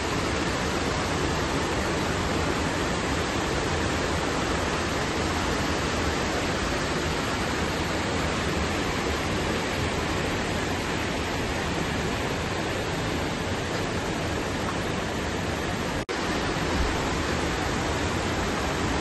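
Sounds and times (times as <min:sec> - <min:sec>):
stream rushing over cascades: 0:00.0 - 0:19.0.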